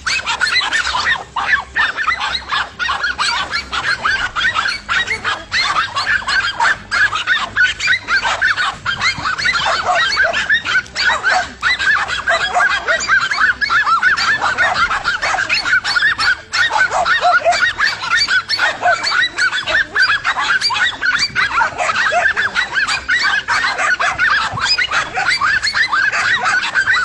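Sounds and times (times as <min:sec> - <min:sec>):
chorus of animal calls: 0:00.0 - 0:27.0.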